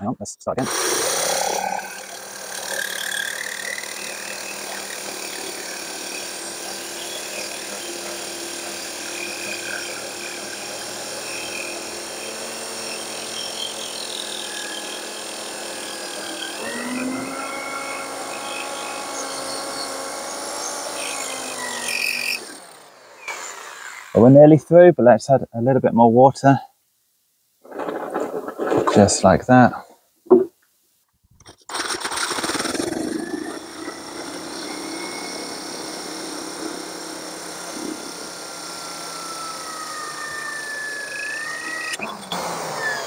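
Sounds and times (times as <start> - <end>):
drill grinding through ceramic: 0.6 - 24.2, 31.4 - 43.0.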